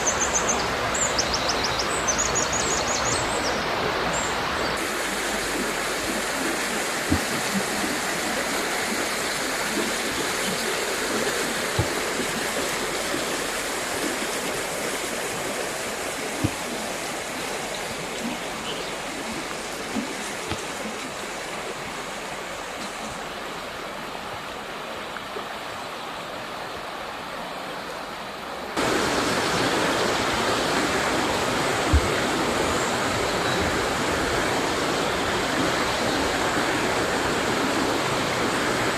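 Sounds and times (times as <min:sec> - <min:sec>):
river running over rocks: 0:00.0 - 0:38.9.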